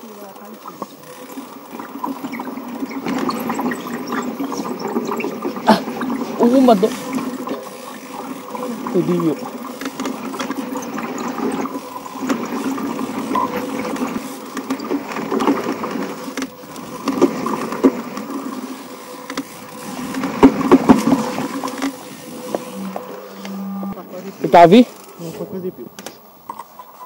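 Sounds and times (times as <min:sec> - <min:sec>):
mountain bike rattling and clicking: 0:00.0 - 0:23.4, 0:24.0 - 0:27.0
tyres rumbling on dirt trail: 0:00.0 - 0:26.6.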